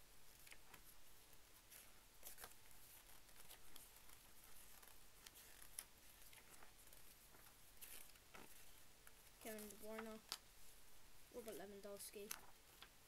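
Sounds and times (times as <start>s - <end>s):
paper rustling: 0.3s - 10.8s, 11.4s - 13.0s.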